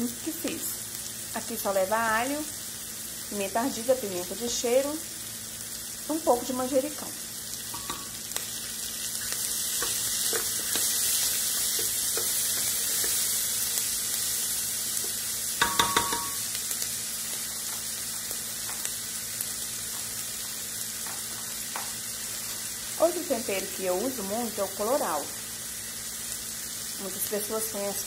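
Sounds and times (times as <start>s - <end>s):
vegetables sizzling in fat: 0.0s - 28.0s.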